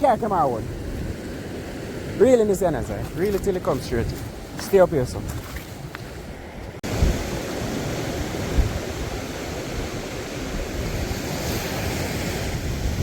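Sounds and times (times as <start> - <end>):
sea surf washing on beach: 0.0 - 13.0
wind buffeting microphone: 0.0 - 13.0.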